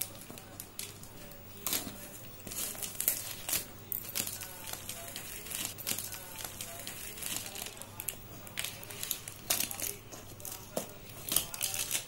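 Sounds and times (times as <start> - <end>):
plastic wrap crinkling and tearing: 0.0 - 12.0.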